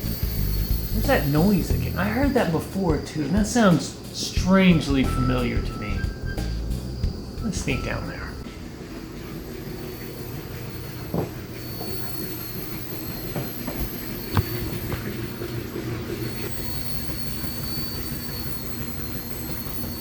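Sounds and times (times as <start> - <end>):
small helicopter rotor whirring: 0.0 - 6.4, 7.0 - 20.0.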